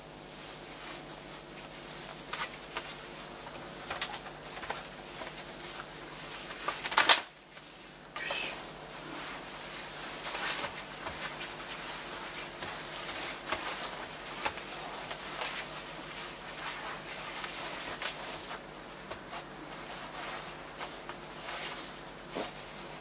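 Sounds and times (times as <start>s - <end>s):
cloth rustling and swishing: 0.1s - 23.0s.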